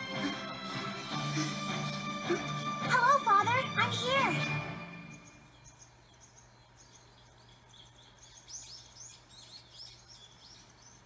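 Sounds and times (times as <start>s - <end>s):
faint birdsong chirps: 0.0s - 11.0s.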